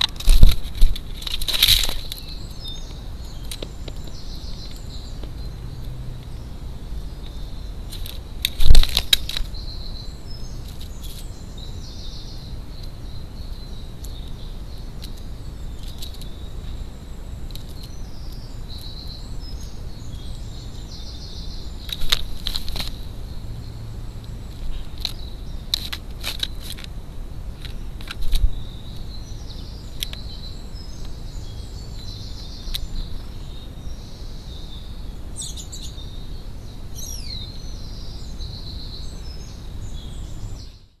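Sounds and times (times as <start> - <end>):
low outdoor rumble: 0.0 - 40.6
small birds chirping and singing: 0.0 - 41.0.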